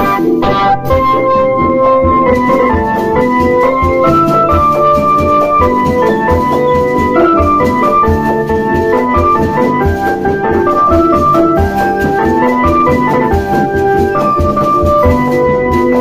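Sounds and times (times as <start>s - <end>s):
keyboard melody over loudspeakers: 0.0s - 16.0s
low drum beat: 0.9s - 16.0s.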